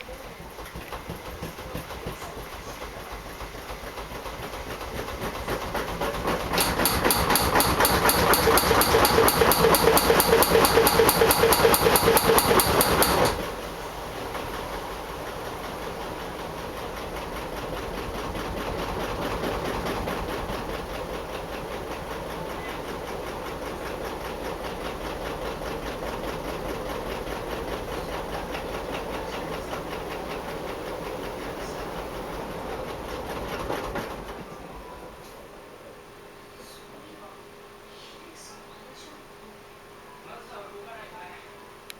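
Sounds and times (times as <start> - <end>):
washing machine pulsing noise: 0.0 - 41.9.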